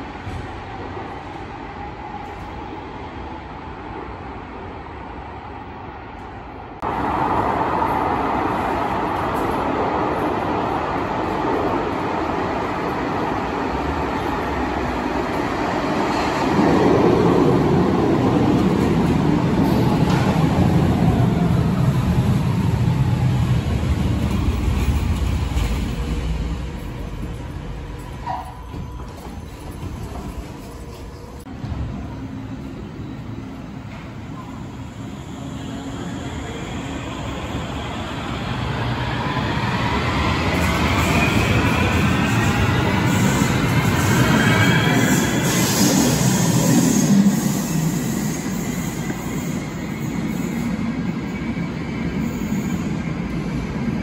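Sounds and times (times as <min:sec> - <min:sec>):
train wheels rumbling on rails: 0:06.2 - 0:54.0.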